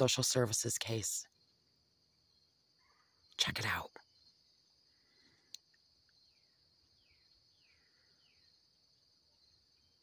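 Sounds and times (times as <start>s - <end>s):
faint insect chorus: 0.0s - 10.0s.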